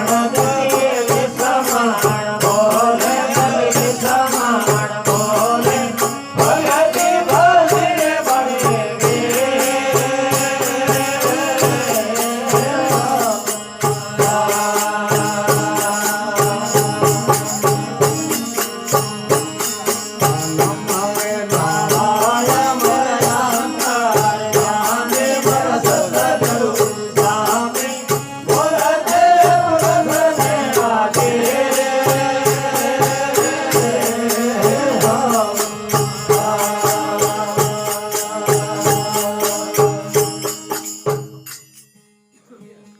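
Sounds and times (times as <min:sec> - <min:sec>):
devotional music with fast beat: 0:00.0 - 0:42.0.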